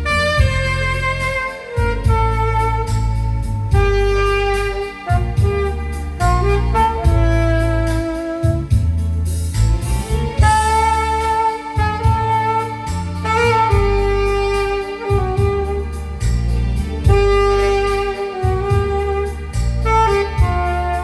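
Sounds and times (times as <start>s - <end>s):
alto saxophone melody: 0.0s - 21.0s
keyboard accompaniment with beat: 0.0s - 21.0s.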